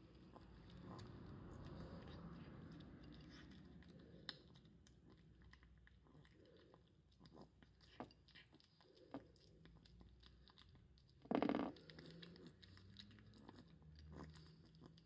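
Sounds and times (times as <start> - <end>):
kitten crunching kibble: 0.0 - 15.0.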